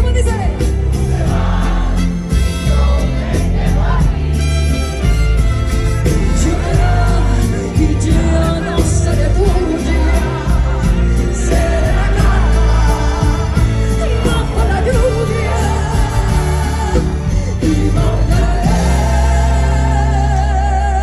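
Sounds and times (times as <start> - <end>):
heavy bass: 0.0 - 21.0
live band music through speakers: 0.0 - 21.0.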